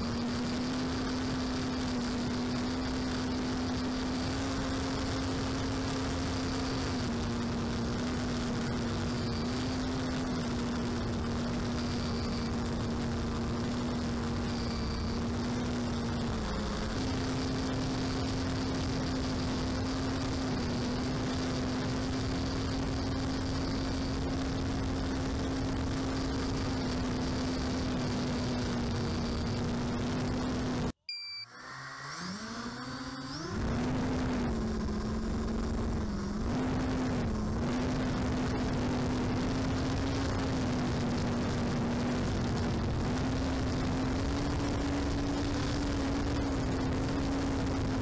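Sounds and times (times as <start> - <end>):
electric motor and propeller hum: 0.0 - 48.0.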